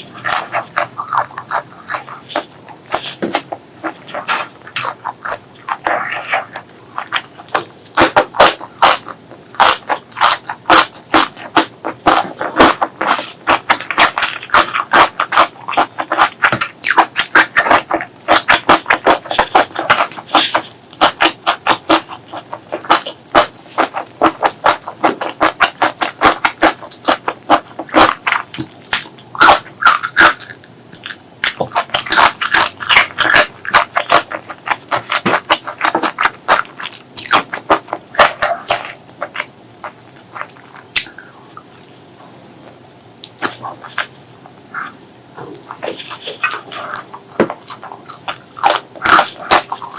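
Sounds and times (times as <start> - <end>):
lip smacking: 0.0 - 49.9
wet chewing: 0.0 - 49.9.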